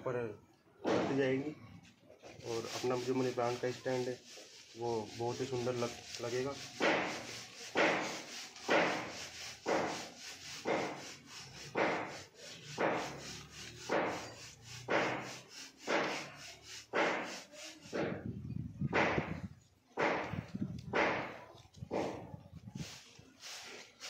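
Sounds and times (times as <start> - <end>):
rhythmic scraping strokes: 2.3 - 18.3, 18.9 - 24.0.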